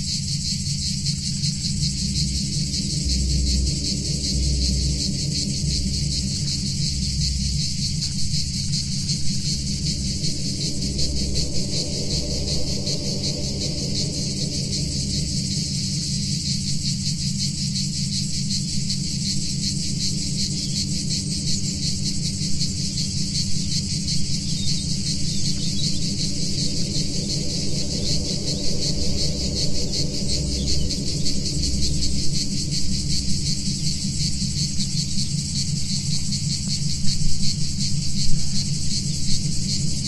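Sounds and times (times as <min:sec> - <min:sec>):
cicadas buzzing: 0:00.0 - 0:40.0
deep rumble: 0:00.0 - 0:40.0
low synthesizer drone: 0:00.0 - 0:40.0.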